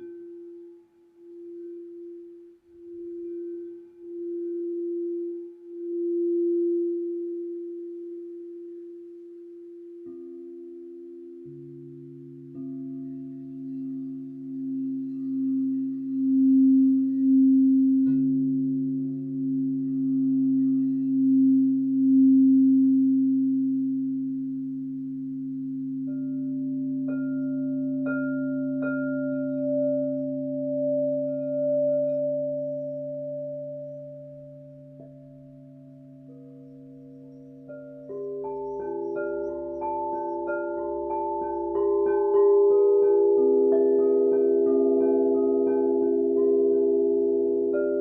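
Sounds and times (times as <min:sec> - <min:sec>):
crystal singing bowls ringing: 0:00.0 - 0:48.0.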